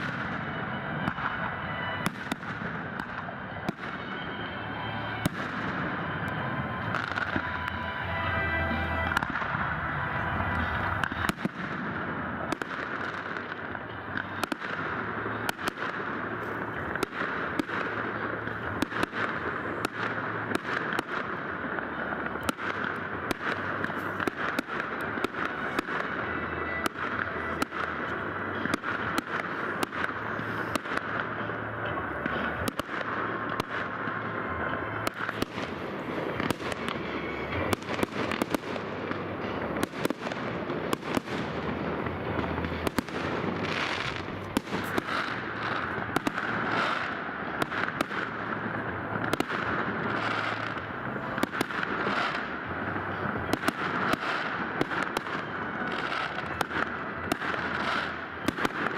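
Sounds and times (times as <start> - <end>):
fireworks crackling hiss: 0.0 - 58.9
fireworks sharp bangs: 0.0 - 58.9.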